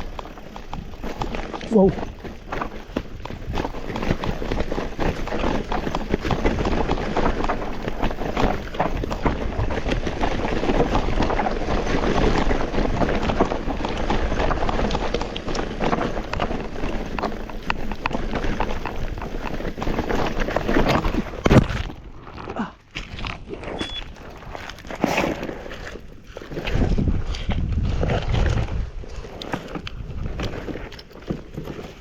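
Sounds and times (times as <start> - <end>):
mountain bike rattling: 0.0 - 32.0
tyres crunching over stones: 0.0 - 32.0.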